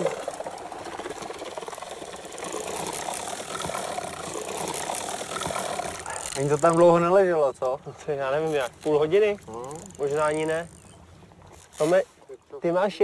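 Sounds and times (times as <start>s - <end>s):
fishing reel ratcheting: 0.0s - 7.3s, 8.4s - 12.1s.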